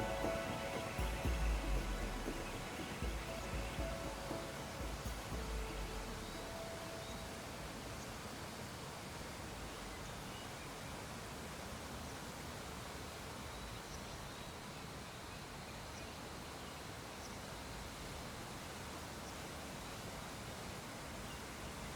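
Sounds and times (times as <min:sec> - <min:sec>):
faint background hiss: 0:00.0 - 0:21.9.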